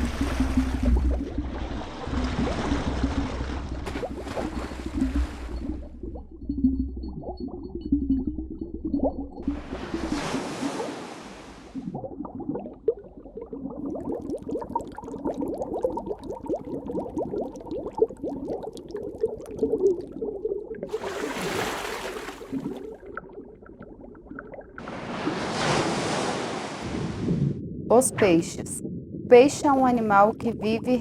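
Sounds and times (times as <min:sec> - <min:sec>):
underwater bubbling and gurgling: 0:00.0 - 0:25.9, 0:26.8 - 0:31.0.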